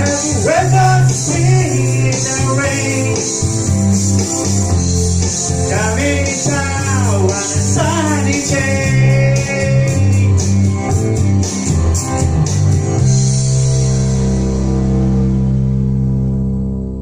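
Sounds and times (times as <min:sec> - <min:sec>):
rock band playing: 0:00.0 - 0:16.8.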